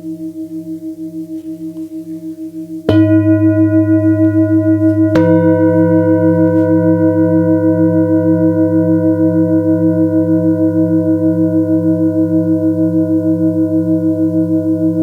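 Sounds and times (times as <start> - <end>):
singing bowls ringing: 0.0 - 15.0
singing bowl struck: 1.4 - 15.0.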